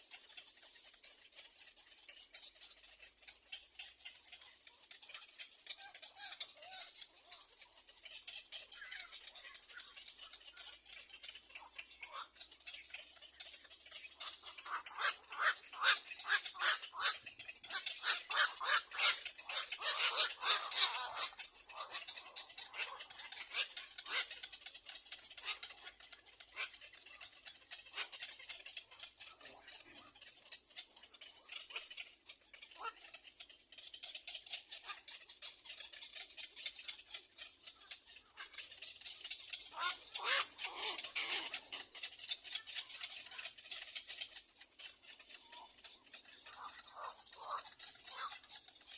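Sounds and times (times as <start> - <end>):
egret nestlings clicking chatter: 0.0 - 48.9.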